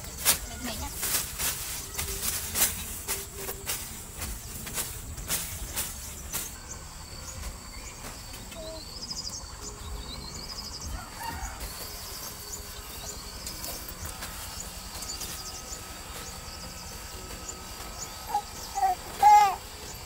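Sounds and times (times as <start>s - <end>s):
insect drone: 0.0s - 20.0s
bird trilling: 3.0s - 20.0s.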